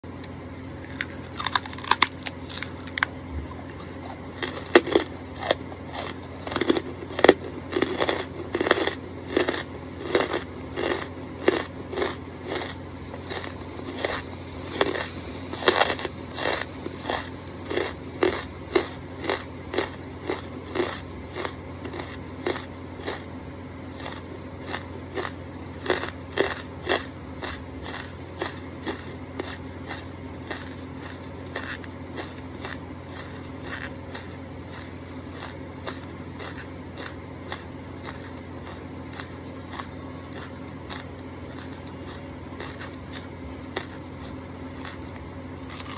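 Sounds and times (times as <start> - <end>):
charcoal crunching when chewed: 0.0 - 45.9
faint low hum: 0.0 - 45.9.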